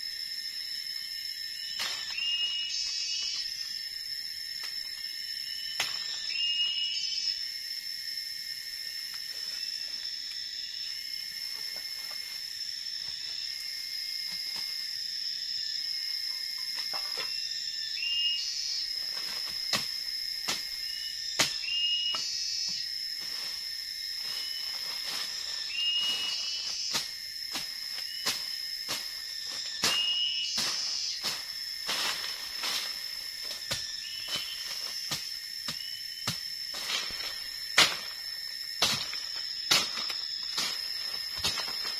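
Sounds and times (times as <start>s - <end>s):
insects high-pitched drone: 0.0s - 41.9s
short rising insect call: 0.0s - 41.9s.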